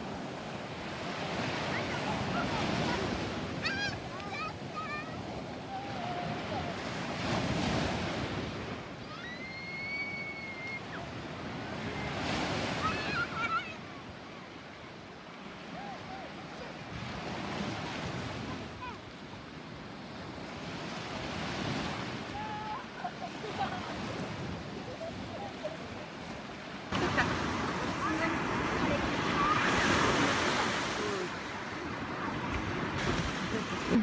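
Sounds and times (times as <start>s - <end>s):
surf washing onto sand: 0.0s - 34.0s.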